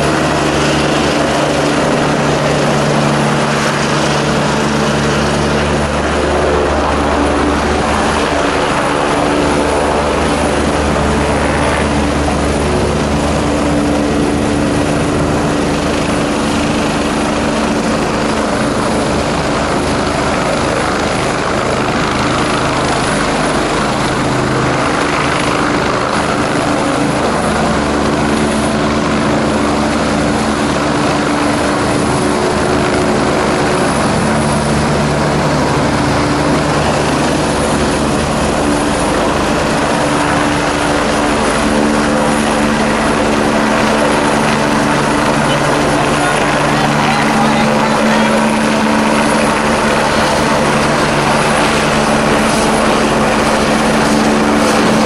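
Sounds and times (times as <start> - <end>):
helicopter hovering: 0.0 - 55.0
steady hums: 0.0 - 55.0.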